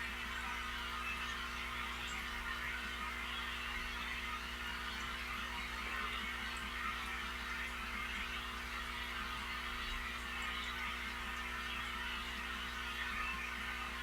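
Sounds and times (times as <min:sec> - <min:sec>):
aquarium equipment hum: 0:00.0 - 0:14.0.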